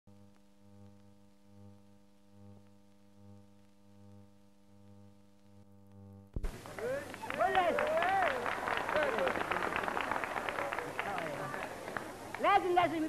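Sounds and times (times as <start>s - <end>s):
faint low hum: 0.1s - 13.0s.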